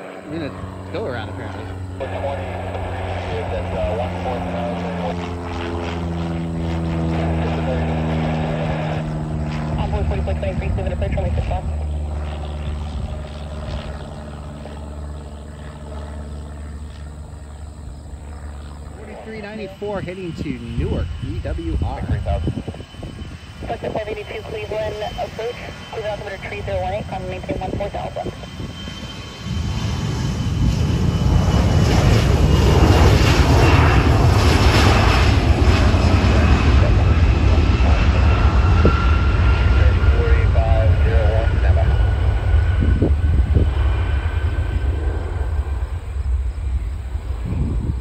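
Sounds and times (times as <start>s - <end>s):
aircraft engine drone: 0.0s - 48.0s.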